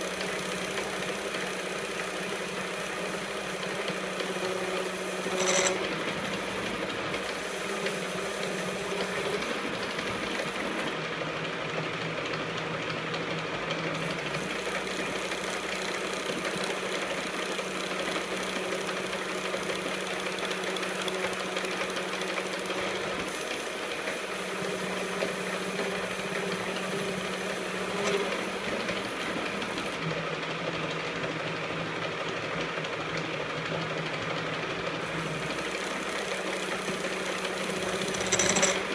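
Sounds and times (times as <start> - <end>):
lathe machine hum: 0.0 - 38.9.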